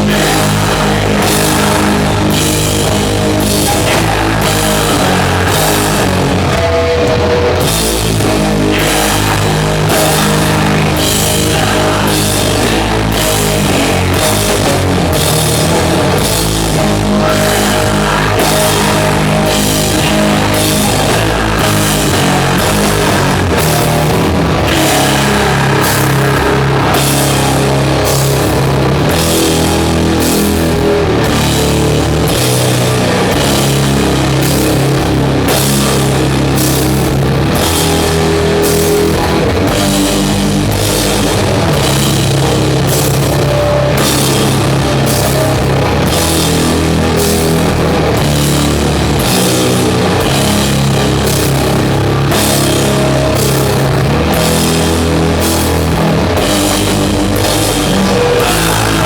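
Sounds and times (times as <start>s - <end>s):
distorted guitars and bass: 0.0s - 59.0s
slow drum beat: 0.0s - 59.0s.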